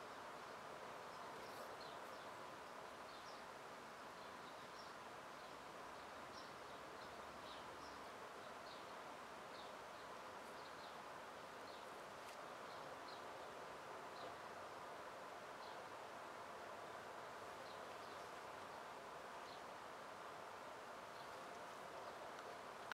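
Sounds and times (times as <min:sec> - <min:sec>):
distant small birds chirping: 0:00.0 - 0:22.9
steady low hiss: 0:00.0 - 0:22.9.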